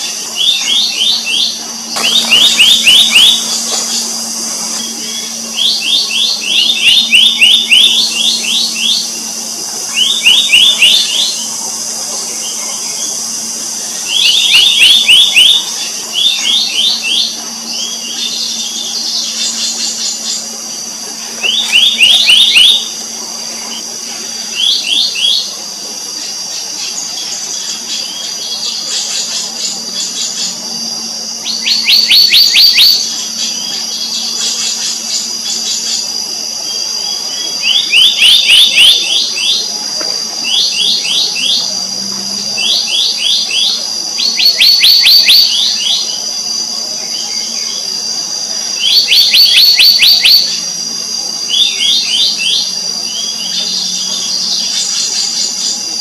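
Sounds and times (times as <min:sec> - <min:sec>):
birds calling sharp notes: 0:00.0 - 0:56.0
insect drone: 0:00.0 - 0:56.0.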